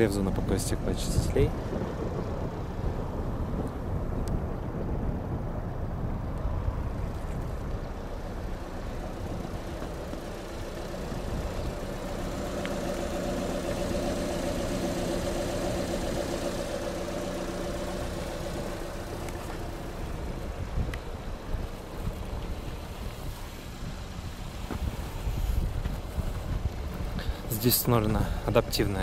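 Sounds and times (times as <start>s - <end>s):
vehicle engine running: 0.0s - 29.0s
low rumble: 0.3s - 29.0s.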